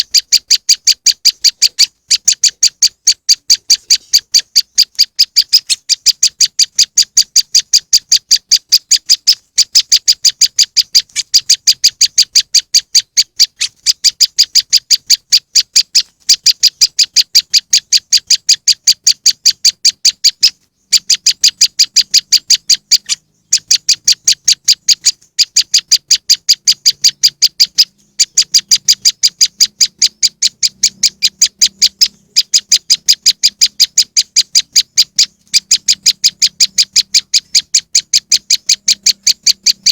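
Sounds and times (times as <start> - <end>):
recorded bird chirps: 0.0 - 39.9.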